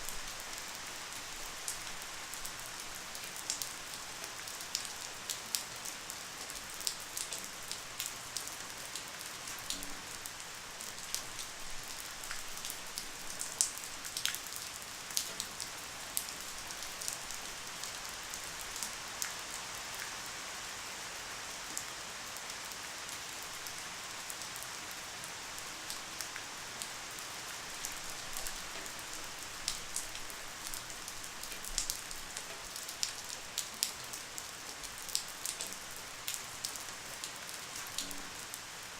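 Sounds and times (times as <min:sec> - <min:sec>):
raindrops ticking on a surface: 0:00.0 - 0:20.2, 0:21.7 - 0:38.9
light rain hiss: 0:00.0 - 0:38.9.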